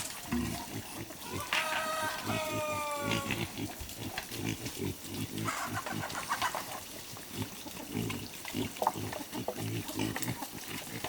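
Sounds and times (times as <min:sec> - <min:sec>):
farm animals calling: 0:00.0 - 0:11.0.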